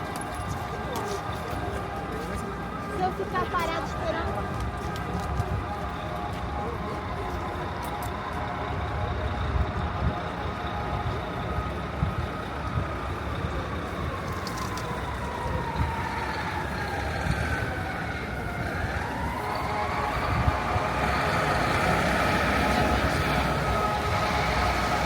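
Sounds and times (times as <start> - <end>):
emergency vehicle siren wailing: 0.0 - 25.0
street traffic rumble: 0.0 - 25.0.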